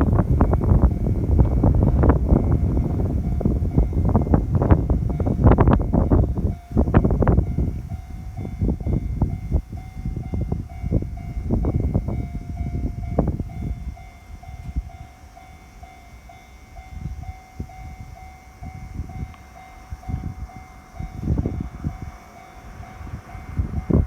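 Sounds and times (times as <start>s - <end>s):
passing train rumble: 0.0s - 24.0s.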